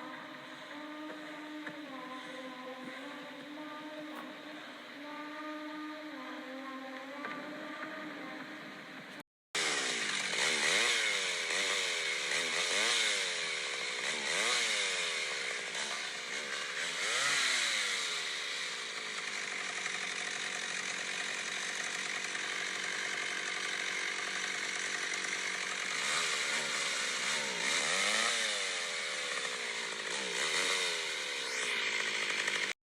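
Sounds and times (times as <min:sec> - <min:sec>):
chainsaw revving: 0:00.0 - 0:08.6, 0:09.6 - 0:32.8.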